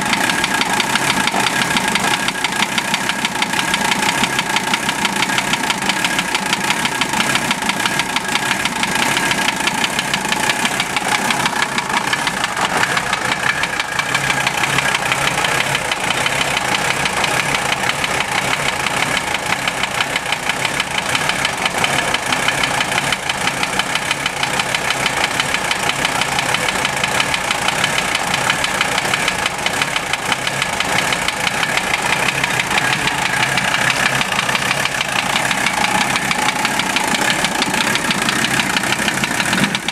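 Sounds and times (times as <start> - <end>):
diesel engine idling: 0.0 - 39.9
rapid engine knock: 0.0 - 39.9.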